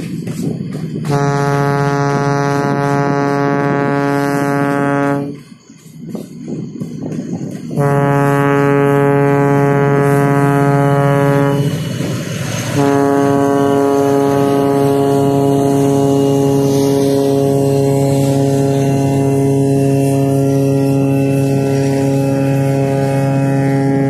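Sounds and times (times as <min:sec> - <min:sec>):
locomotive air horn blasts: 0:01.0 - 0:05.5, 0:07.7 - 0:11.9, 0:12.7 - 0:24.0.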